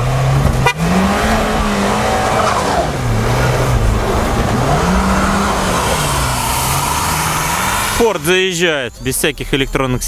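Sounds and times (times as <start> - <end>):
car engine revving hard: 0.0 - 8.4.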